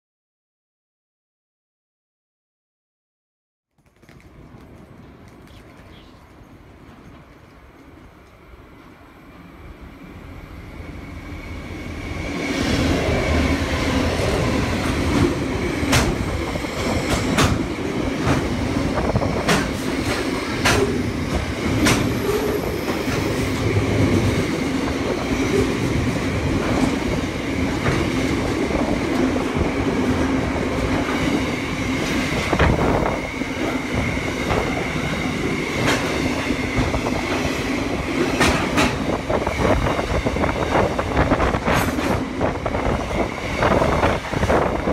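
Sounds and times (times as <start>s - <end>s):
diesel locomotives passing: 4.8s - 44.9s.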